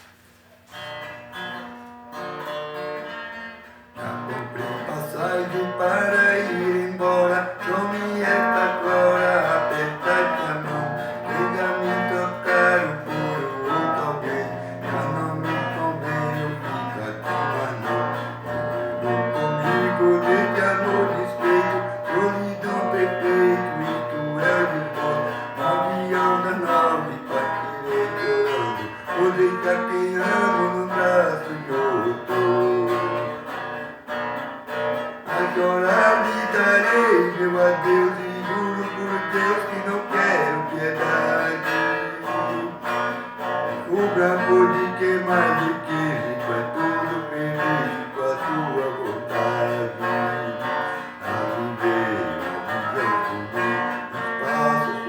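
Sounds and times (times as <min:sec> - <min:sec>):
acoustic guitar plucked and strummed: 0:00.0 - 0:55.0.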